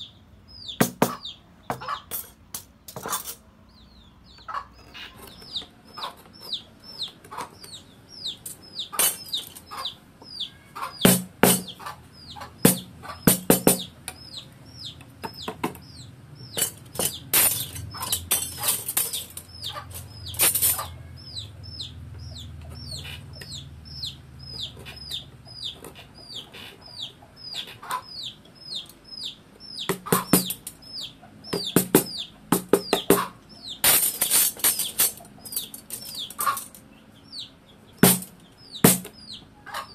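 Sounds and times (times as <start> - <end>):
chick peeping: 0.0 - 2.2, 3.0 - 39.9.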